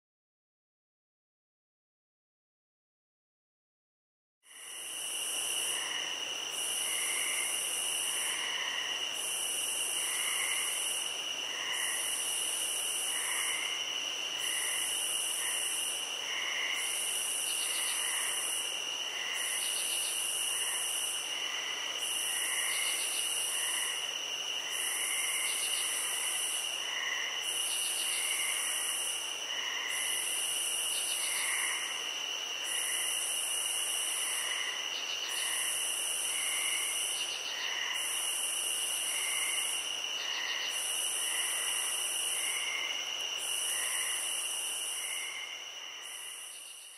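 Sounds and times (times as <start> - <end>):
pulsing insect trill: 4.5 - 46.9.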